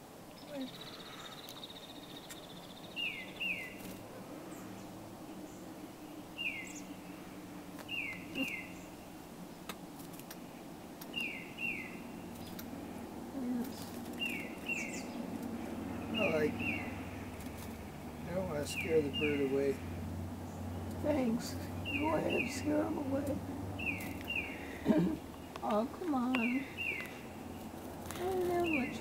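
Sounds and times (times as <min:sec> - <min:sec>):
faint low hum: 0:00.0 - 0:29.0
songbird calling: 0:00.3 - 0:29.0.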